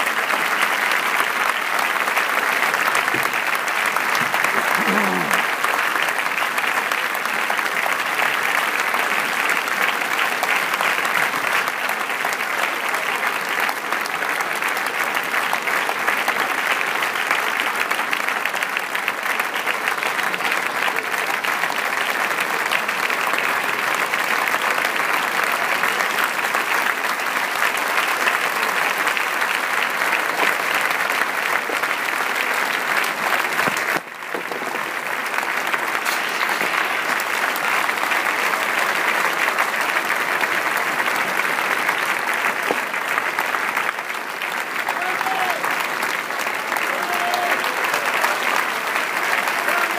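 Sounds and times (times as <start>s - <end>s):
audience applauding: 0.0s - 49.9s.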